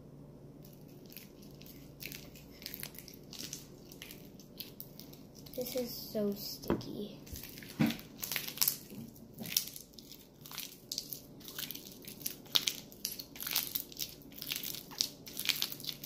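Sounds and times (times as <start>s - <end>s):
slime crackling and popping: 0.6s - 5.9s, 7.2s - 16.0s.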